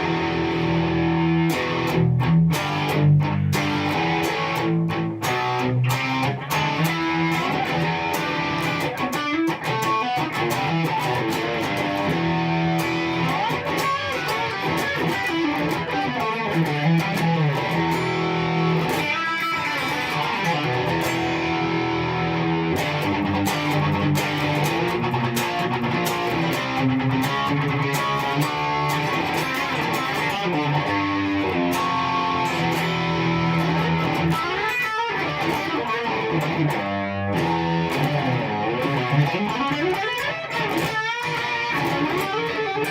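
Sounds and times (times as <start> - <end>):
electric guitar lead line: 0.0 - 42.9.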